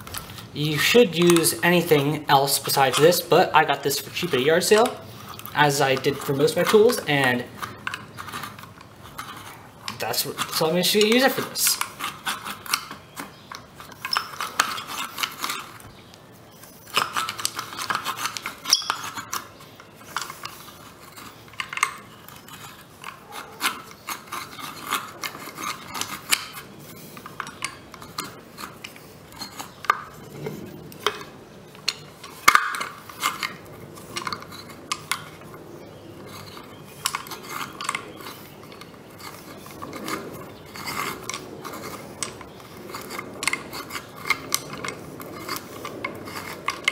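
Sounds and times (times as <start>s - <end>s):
hand drill gears clicking: 0.0s - 15.9s, 16.6s - 30.3s, 30.9s - 46.9s.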